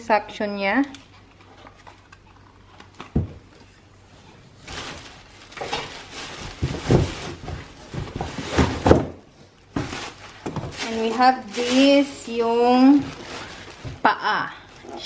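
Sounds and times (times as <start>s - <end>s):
packaging rustling: 1.2s - 15.0s.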